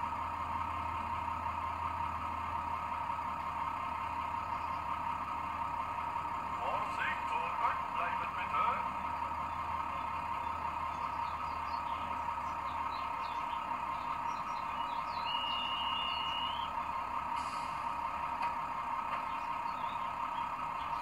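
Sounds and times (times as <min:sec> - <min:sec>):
diesel engine idling through small speaker: 0:00.0 - 0:21.0.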